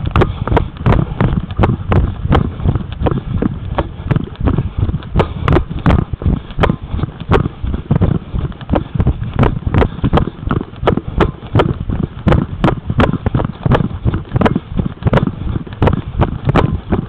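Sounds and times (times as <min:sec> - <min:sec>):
footsteps walking: 0:00.0 - 0:17.0
low rumble: 0:00.0 - 0:17.0.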